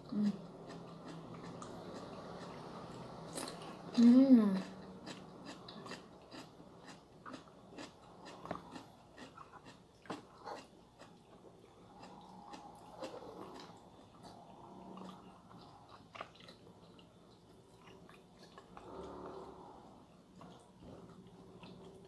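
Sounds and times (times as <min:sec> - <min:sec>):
chewing: 0:00.2 - 0:22.0.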